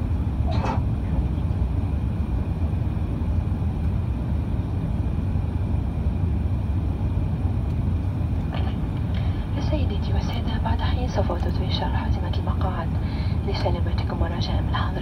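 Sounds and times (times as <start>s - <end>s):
airliner engines rumbling: 0.0s - 15.0s.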